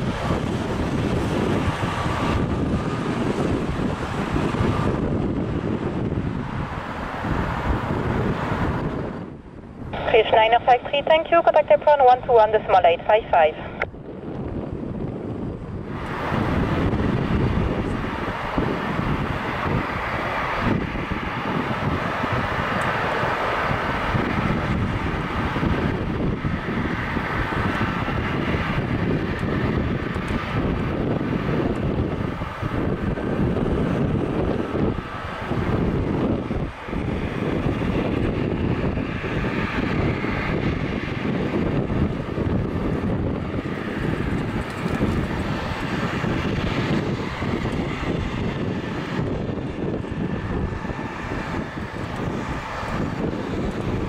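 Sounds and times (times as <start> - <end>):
jet engine rumble with whine: 0.0 - 54.0.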